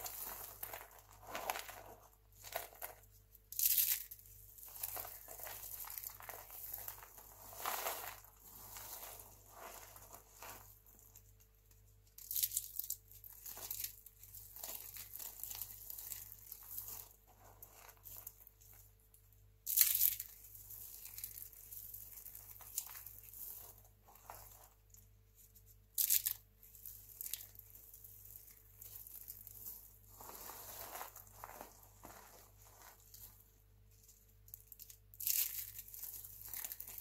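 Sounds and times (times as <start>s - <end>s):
soap crumbs crunching: 0.0s - 11.5s, 12.1s - 18.9s, 19.6s - 25.1s, 25.9s - 33.5s, 34.1s - 37.0s.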